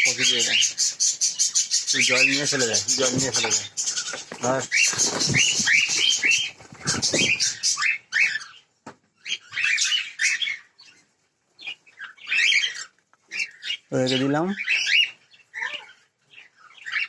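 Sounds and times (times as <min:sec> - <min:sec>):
cockatiels chirping: 0:00.0 - 0:17.0.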